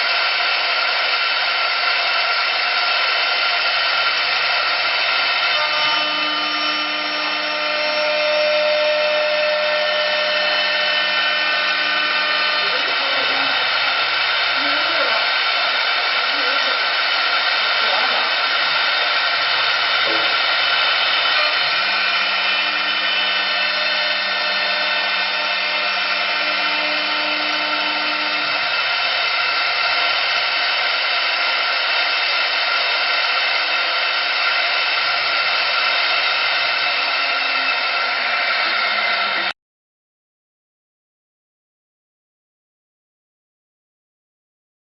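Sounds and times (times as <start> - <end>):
lathe motor whine: 0.0 - 39.6.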